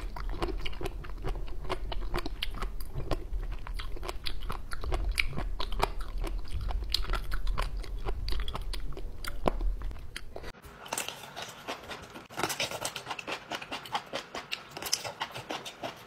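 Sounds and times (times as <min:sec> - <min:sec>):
crunchy chewing clicks: 0:00.0 - 0:16.0
wet clicking chewing: 0:00.0 - 0:16.0.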